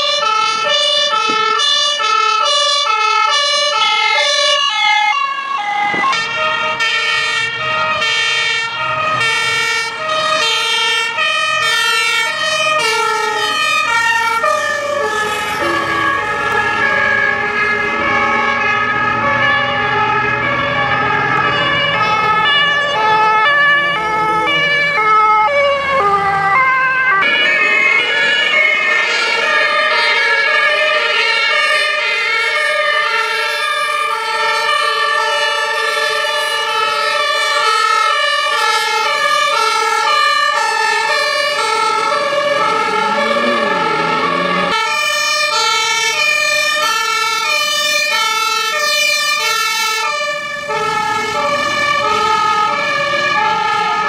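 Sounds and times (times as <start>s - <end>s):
two-tone fire engine siren: 0.0s - 54.0s.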